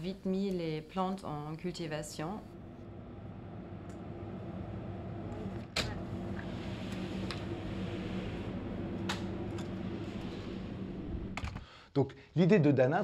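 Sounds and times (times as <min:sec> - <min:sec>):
room ventilation hum: 0:00.0 - 0:12.6.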